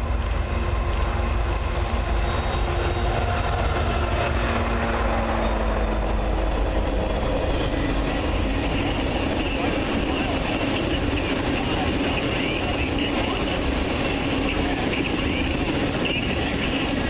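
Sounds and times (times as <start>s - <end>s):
diesel locomotive engines droning: 0.0s - 17.0s
train low rumble: 0.0s - 17.0s.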